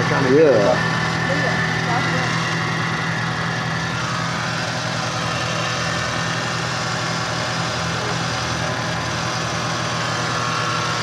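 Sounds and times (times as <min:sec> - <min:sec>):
car engine idling: 0:00.0 - 0:11.0
engine whine: 0:00.0 - 0:11.0.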